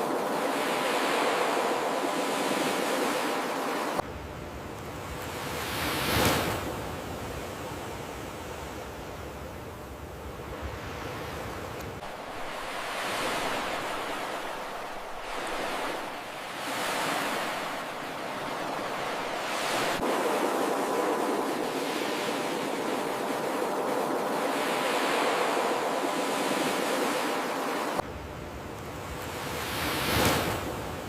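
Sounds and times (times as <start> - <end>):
ocean waves washing in: 0.0 - 28.1.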